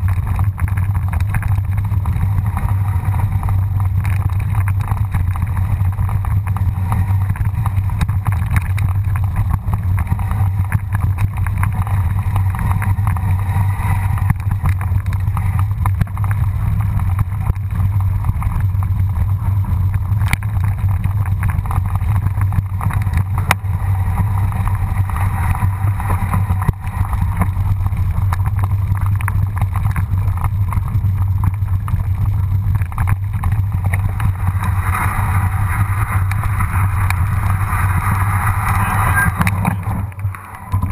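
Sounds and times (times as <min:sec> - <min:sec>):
bike tyre and frame rattle: 0:00.0 - 0:40.9.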